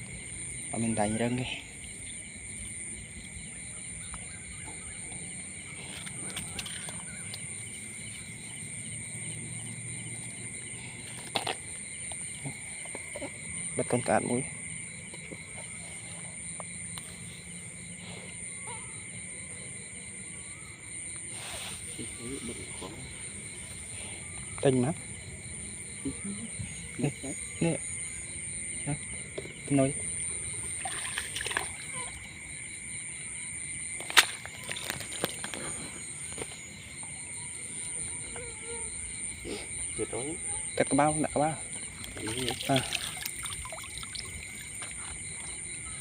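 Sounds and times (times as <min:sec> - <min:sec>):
crickets and insects trilling: 0:00.0 - 0:46.0.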